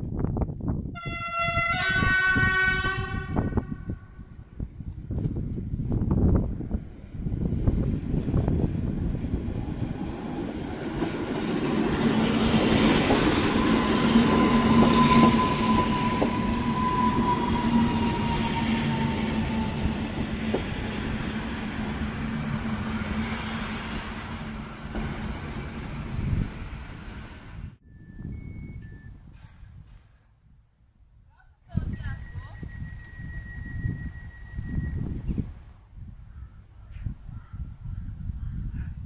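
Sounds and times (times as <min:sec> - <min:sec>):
train low hum: 0:00.0 - 0:39.0
train high whine: 0:00.9 - 0:30.2, 0:32.1 - 0:35.9.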